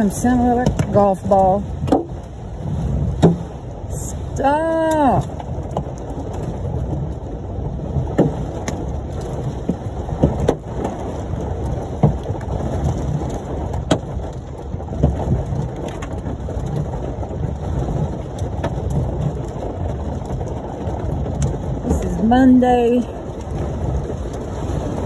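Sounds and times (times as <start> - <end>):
heavy rain on a car: 0.0 - 25.0
hailstones banging on car roof: 0.1 - 2.3, 3.0 - 3.7, 4.8 - 25.0.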